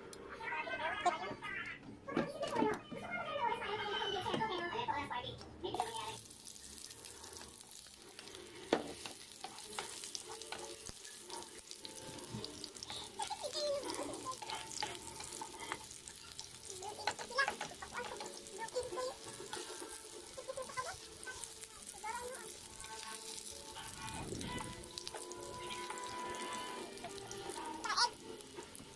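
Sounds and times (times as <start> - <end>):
onion and garlic sizzling: 5.6 - 28.9.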